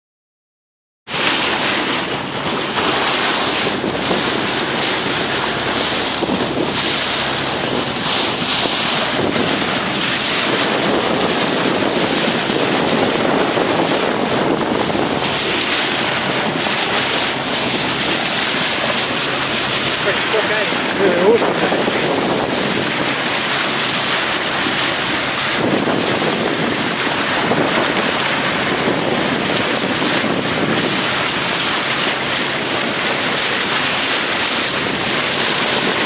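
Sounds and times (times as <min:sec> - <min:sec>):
water rushing along boat hull: 0:01.1 - 0:36.0
wind buffeting microphone: 0:01.2 - 0:36.0.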